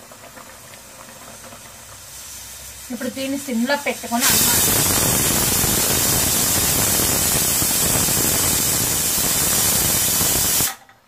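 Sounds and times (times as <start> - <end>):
pressure cooker hissing steam: 0.0 - 10.8.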